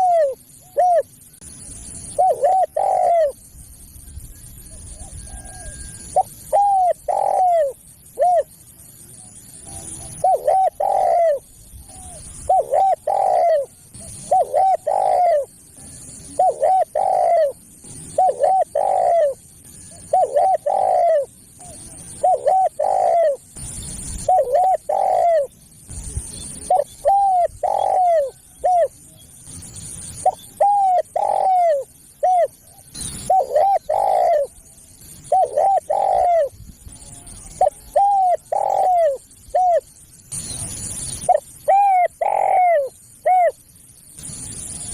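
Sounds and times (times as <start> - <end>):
dove cooing: 0.0 - 1.2, 2.0 - 3.5, 4.6 - 8.6, 9.2 - 25.6, 26.4 - 29.0, 30.2 - 40.0, 40.6 - 43.6.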